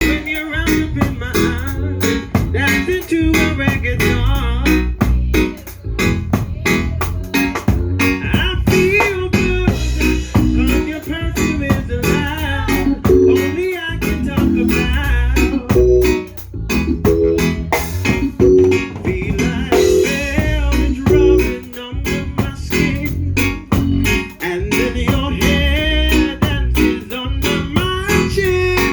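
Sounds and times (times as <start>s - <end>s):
bass guitar: 0.0s - 28.9s
drum kit beat: 0.0s - 28.9s
guitar: 0.0s - 28.9s.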